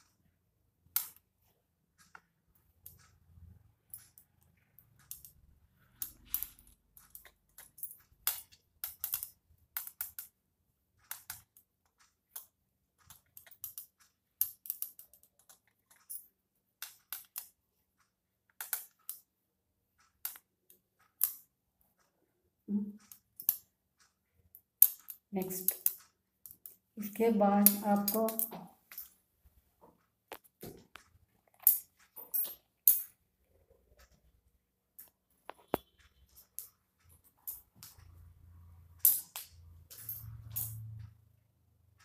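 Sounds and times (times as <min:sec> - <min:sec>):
knitting needles clicking: 0:00.0 - 0:19.4, 0:20.0 - 0:42.0.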